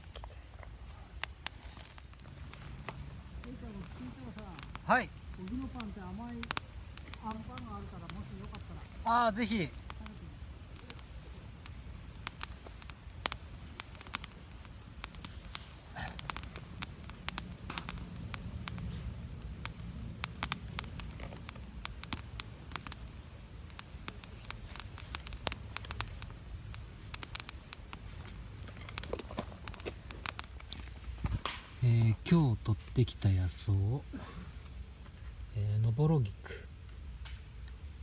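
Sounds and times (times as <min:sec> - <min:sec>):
campfire crackling and popping: 0:00.0 - 0:38.0
low steady rumble: 0:00.0 - 0:38.0.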